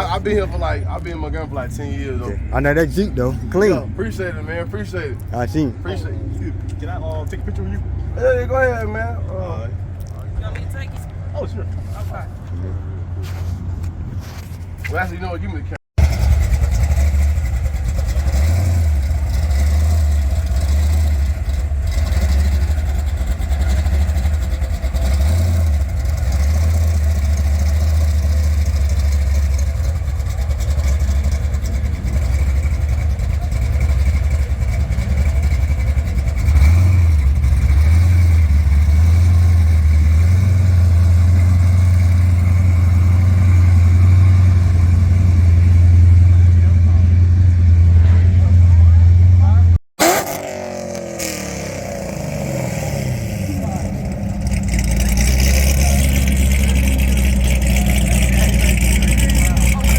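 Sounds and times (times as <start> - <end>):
car engine rumbling: 0.0 - 59.9.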